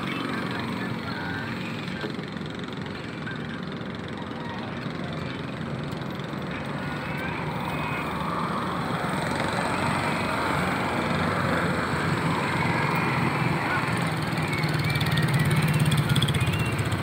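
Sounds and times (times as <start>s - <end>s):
road traffic passing: 0.0s - 17.0s
vehicle approaching: 0.0s - 17.0s.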